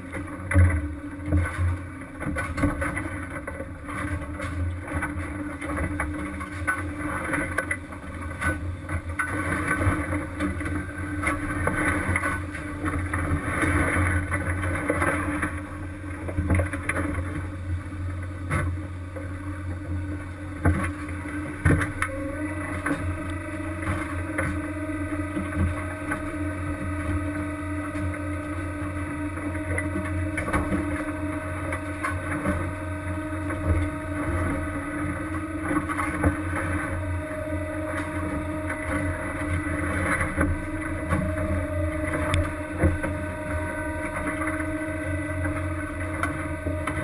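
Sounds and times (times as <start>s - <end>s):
boat engine and machinery running: 0.0s - 47.0s.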